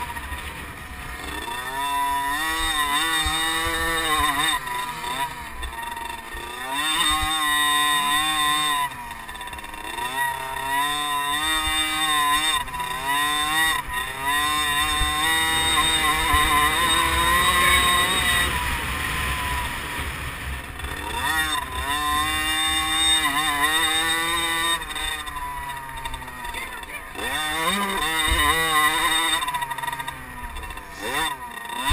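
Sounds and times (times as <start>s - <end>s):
motocross bike engines revving: 0.0s - 31.9s.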